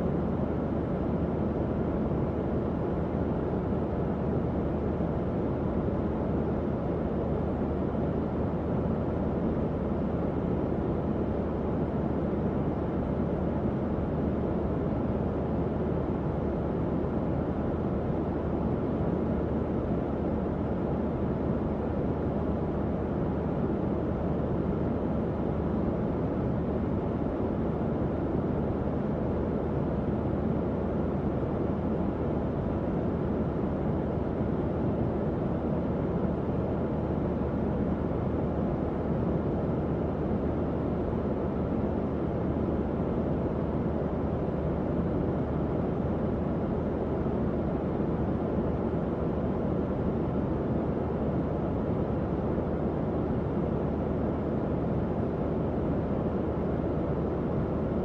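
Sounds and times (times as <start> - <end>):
faint fan motor hum: 0.0 - 58.0.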